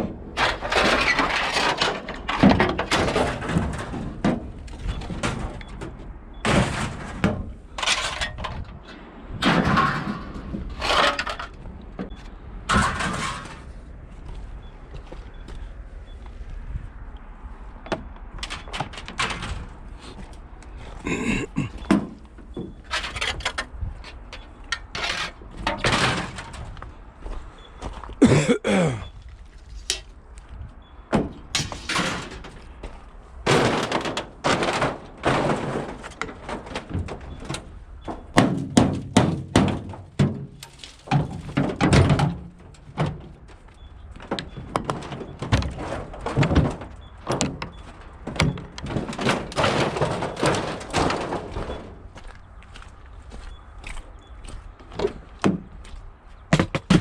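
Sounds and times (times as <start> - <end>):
scrap metal thudding and banging: 0.0 - 14.7, 17.8 - 29.1, 30.9 - 52.9, 54.8 - 57.0.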